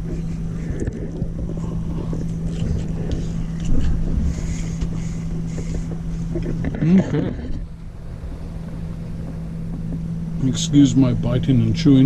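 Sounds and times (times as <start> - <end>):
low motor hum: 0.0 - 12.0
low rumble: 0.0 - 12.0.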